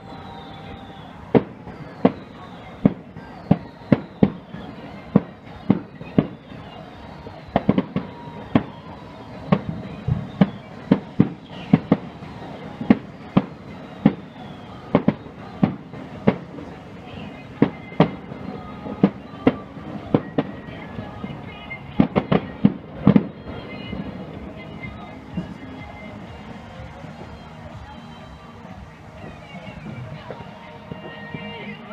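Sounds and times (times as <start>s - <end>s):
falling firework whistles: 0.0s - 31.9s.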